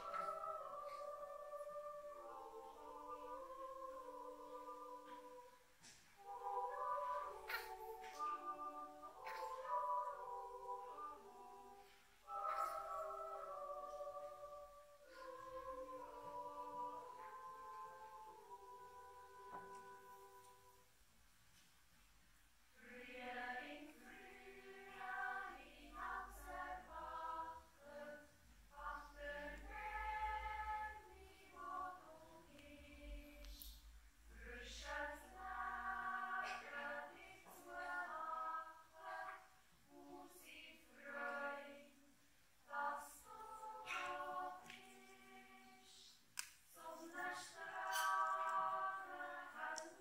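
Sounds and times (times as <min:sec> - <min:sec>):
children's choir yodeling: 0:00.0 - 0:20.8, 0:22.8 - 0:33.7, 0:34.3 - 0:50.0.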